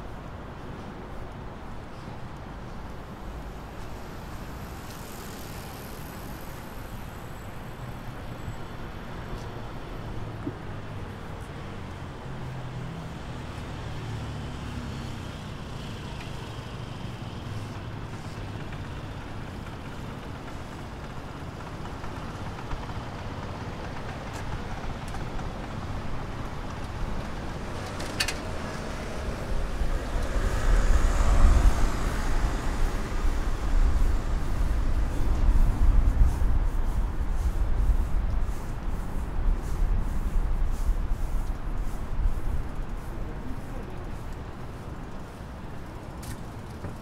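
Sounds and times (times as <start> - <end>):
cars passing on street: 0.0 - 47.0.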